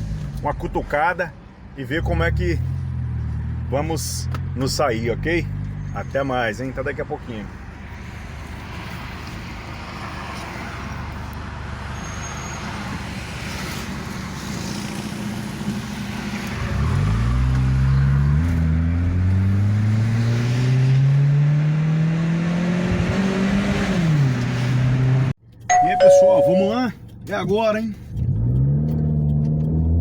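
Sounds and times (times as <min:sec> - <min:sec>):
car engine rumbling and accelerating: 0:00.0 - 0:30.0.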